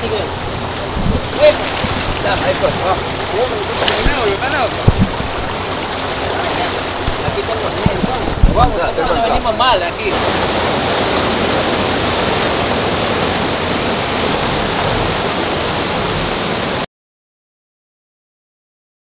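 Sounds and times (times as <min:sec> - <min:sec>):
floodwater rushing: 0:00.0 - 0:16.9.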